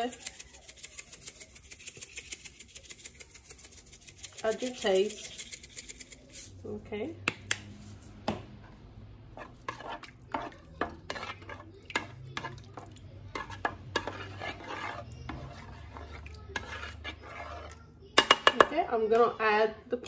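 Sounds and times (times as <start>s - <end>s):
utensil stirring and scraping pot: 0.0s - 6.8s, 7.5s - 20.0s.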